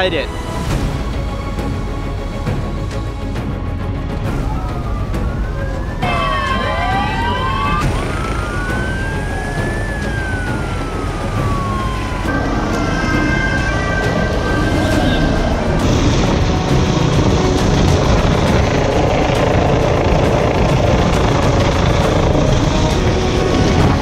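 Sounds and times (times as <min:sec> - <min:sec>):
low rumble: 0:01.0 - 0:24.0
sirens wailing: 0:04.2 - 0:24.0.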